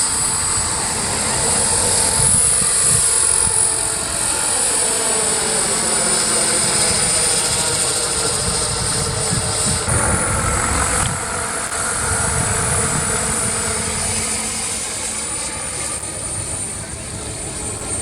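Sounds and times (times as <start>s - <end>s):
lower tone sliding down: 0.0s - 17.9s
model helicopter turbine whine: 0.0s - 18.0s.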